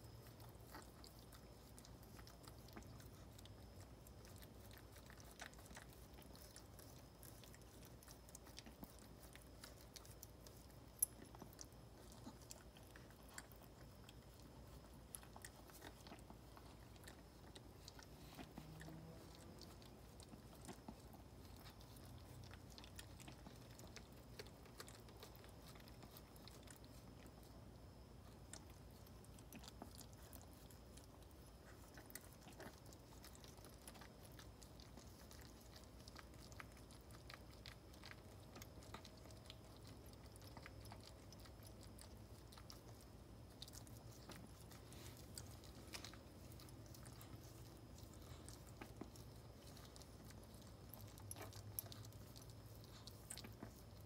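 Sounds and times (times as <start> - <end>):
low steady hum: 0.0 - 54.0
dog licking wet clicks: 0.1 - 54.0.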